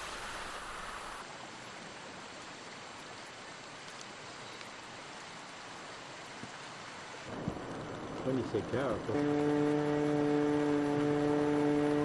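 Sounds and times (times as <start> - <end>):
faint water hiss: 0.0 - 12.0.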